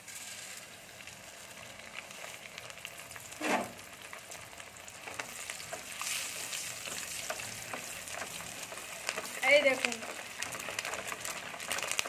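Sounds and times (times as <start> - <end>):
pearls sizzling in hot oil: 0.0 - 12.0.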